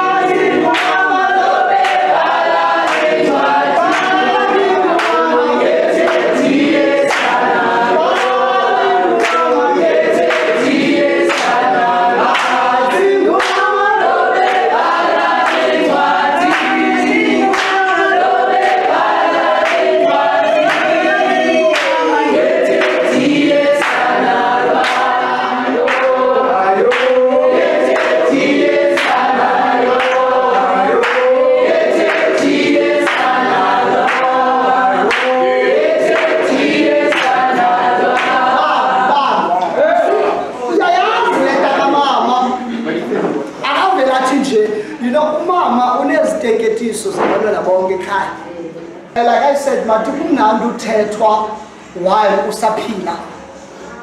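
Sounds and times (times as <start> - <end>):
group singing gospel in harmony: 0.0 - 48.3.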